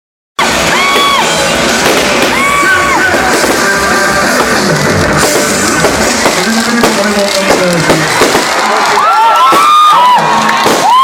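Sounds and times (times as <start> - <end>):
live rock music: 0.4 - 11.0.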